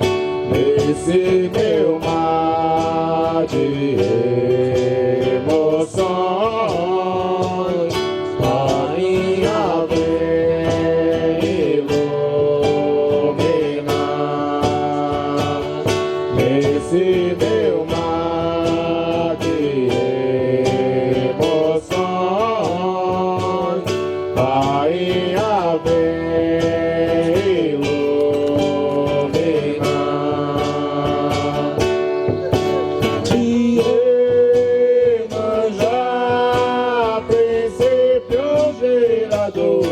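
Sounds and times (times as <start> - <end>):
person singing: 0.0 - 39.9
strummed acoustic guitar: 0.0 - 39.9.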